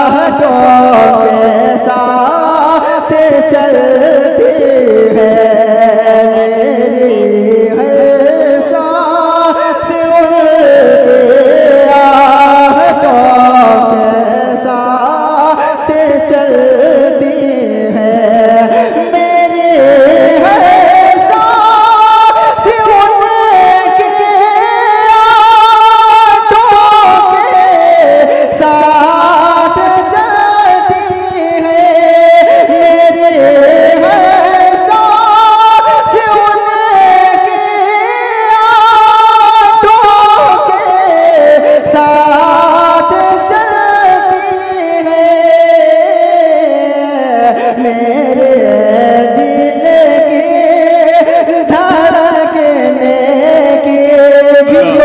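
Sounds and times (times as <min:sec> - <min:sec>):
man singing into a microphone: 0:00.0 - 0:55.0.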